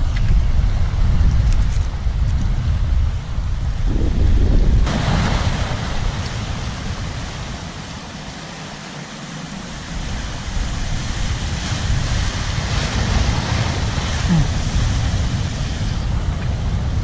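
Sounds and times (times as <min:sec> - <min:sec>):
wind buffeting microphone: 0:00.0 - 0:08.4, 0:09.6 - 0:17.0
surf washing over rocks: 0:00.6 - 0:17.0.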